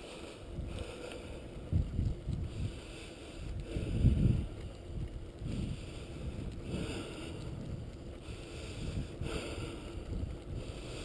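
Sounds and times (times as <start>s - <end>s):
wheels rolling over asphalt: 0.0s - 11.0s
wind buffeting microphone: 0.0s - 11.0s.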